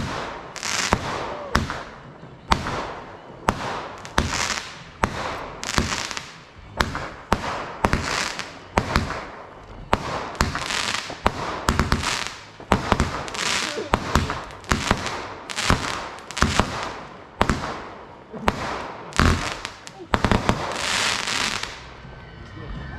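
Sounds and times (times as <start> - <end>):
crackling hiss of bursting shells: 0.0 - 1.9, 2.5 - 9.3, 10.0 - 21.9
firework barrage bangs: 0.0 - 21.9.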